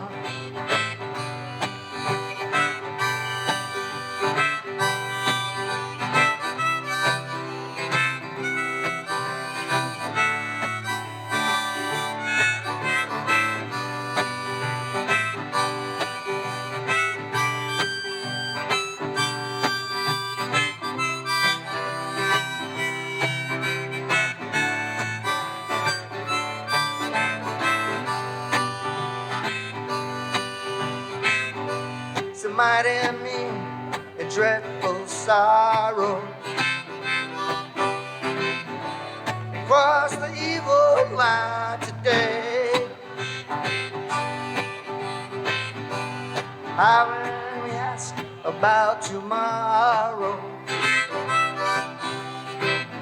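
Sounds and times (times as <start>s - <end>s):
harmonica solo: 0.0s - 53.0s
strummed acoustic guitar: 0.0s - 53.0s.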